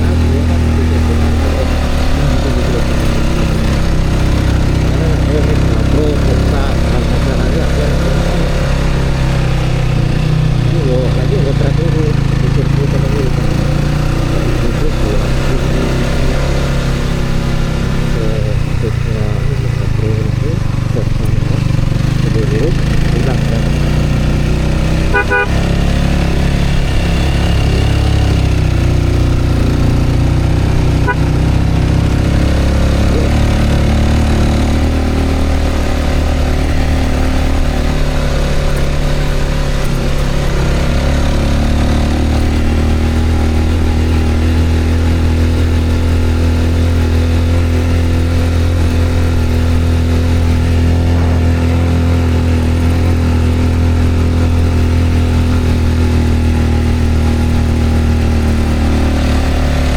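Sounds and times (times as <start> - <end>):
road noise: 0.0 - 59.9
vehicle engine droning: 0.0 - 59.9.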